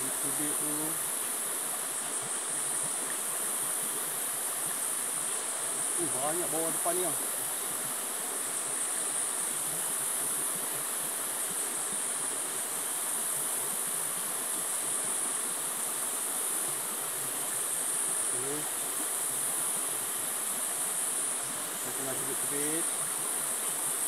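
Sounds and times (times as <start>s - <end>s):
flowing river water: 0.0s - 24.0s
insects buzzing drone: 0.0s - 24.0s.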